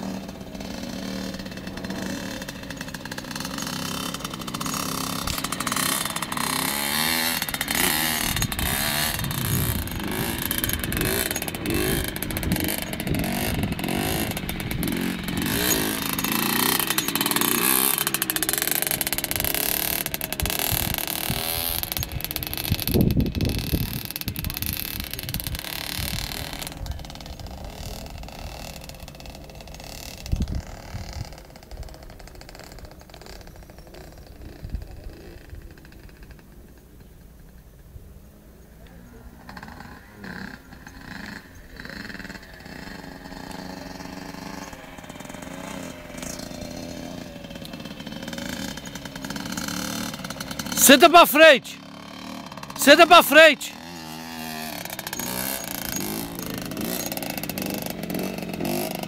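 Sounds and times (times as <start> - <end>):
motocross bike engine running: 0.0 - 37.9, 38.8 - 59.0.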